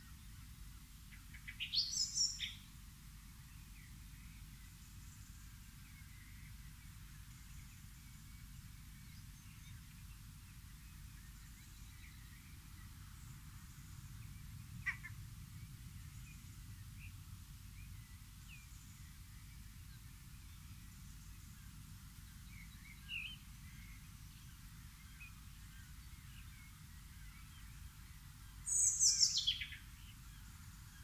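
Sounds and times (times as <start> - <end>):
low steady rumble: 0.0 - 31.0
faint bird chirps: 1.1 - 2.8, 3.4 - 31.0.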